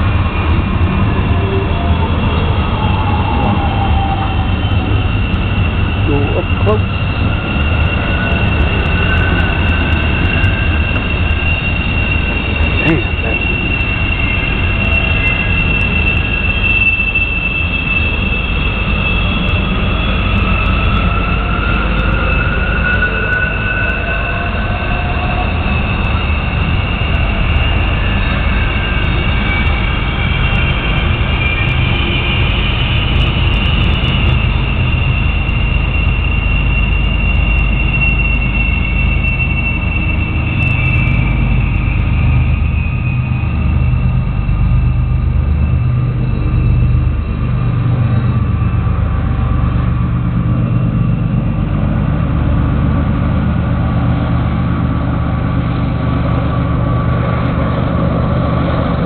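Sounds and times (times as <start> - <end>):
freight train rumbling past: 0.0 - 59.0
train wheels squealing: 0.0 - 59.0.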